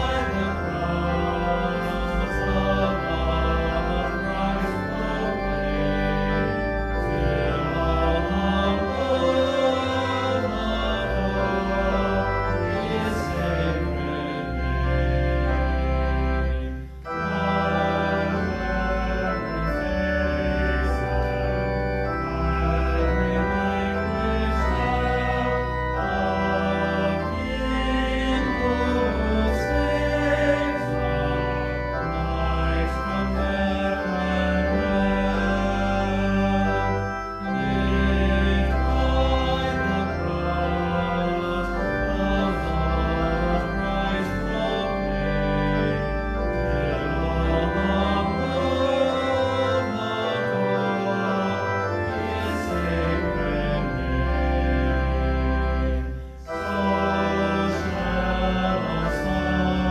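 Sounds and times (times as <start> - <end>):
church organ chords: 0.0 - 59.9.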